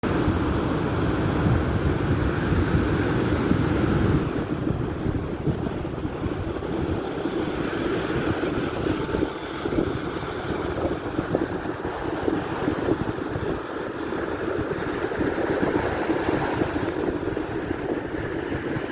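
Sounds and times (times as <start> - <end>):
sea surf: 0.0 - 18.9
wind buffeting the microphone: 0.0 - 18.9.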